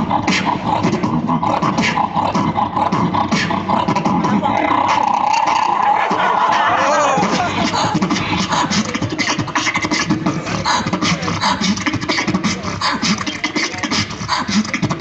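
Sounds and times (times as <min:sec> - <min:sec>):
beatboxing through speakers: 0:00.0 - 0:15.0.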